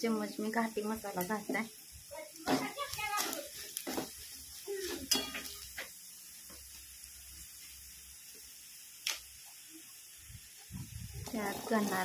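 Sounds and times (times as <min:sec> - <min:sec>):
faint sizzle of frying: 0:00.0 - 0:12.0.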